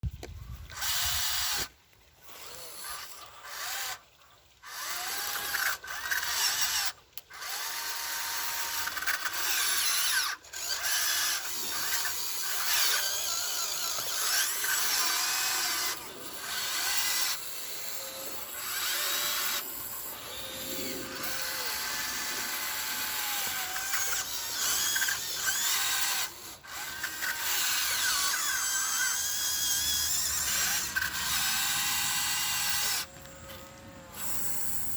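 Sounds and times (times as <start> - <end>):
electric motors whining: 0.6 - 34.9.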